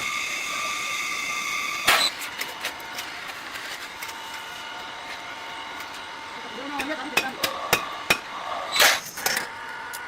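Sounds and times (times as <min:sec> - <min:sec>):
workshop machine whine: 0:00.0 - 0:10.0.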